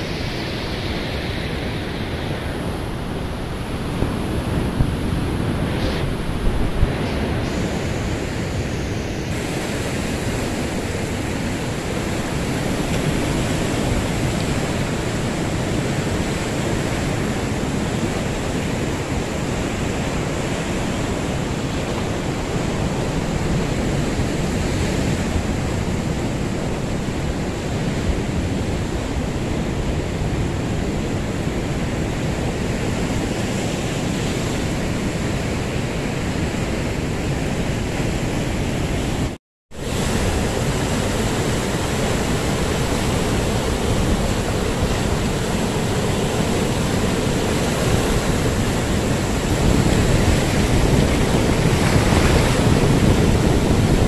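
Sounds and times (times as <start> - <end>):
surf breaking on pebbly shore: 0.0 - 54.0
wind rumbling on microphone: 0.0 - 54.0.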